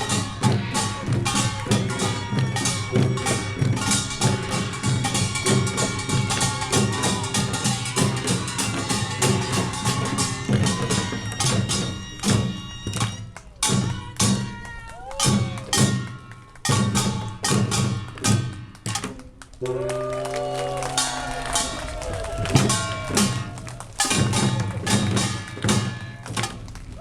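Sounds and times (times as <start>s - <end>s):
percussion band with gongs and drums: 0.0s - 27.0s.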